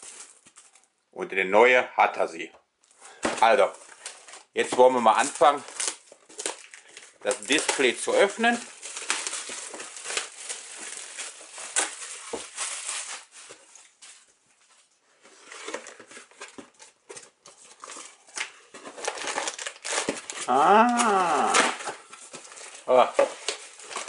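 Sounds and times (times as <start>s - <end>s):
plastic shrink wrap crinkling: 0.0s - 0.9s, 2.8s - 24.0s.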